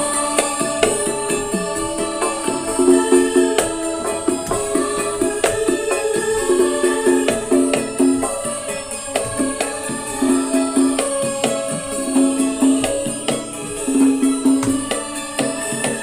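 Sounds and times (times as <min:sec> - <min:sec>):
music through speakers: 0:00.0 - 0:16.0.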